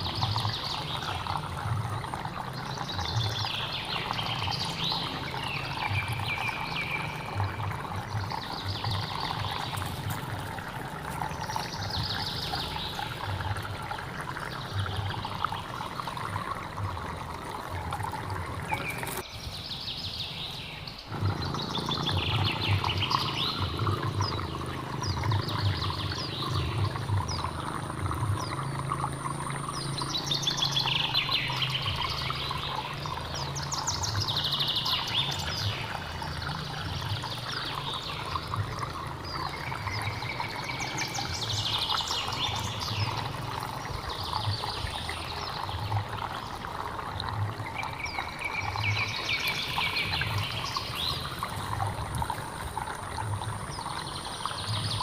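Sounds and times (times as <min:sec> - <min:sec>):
small birds chirping: 0:00.0 - 0:46.9, 0:47.6 - 0:55.0
stream water flowing: 0:00.0 - 0:55.0.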